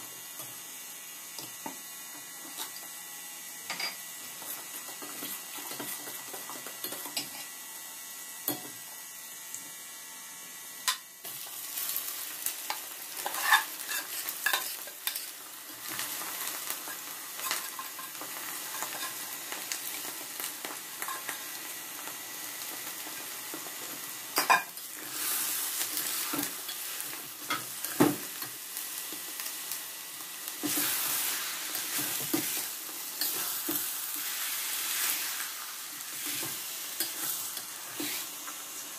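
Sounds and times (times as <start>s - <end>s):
syrup sizzling in a pot: 0.0s - 38.9s.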